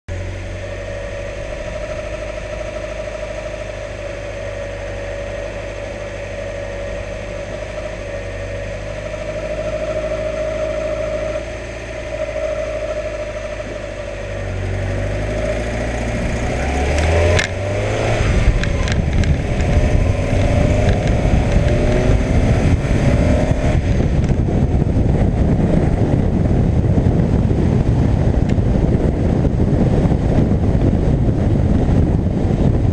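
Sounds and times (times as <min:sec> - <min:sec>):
rushing noise: 0:00.1 - 0:32.3
car engine running: 0:00.1 - 0:32.9
wavering whir: 0:00.1 - 0:32.9.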